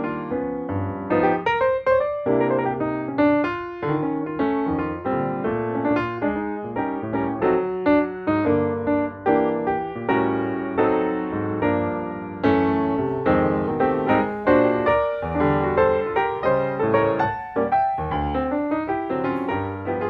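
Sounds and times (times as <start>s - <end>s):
piano melody over chords: 0.0s - 20.0s.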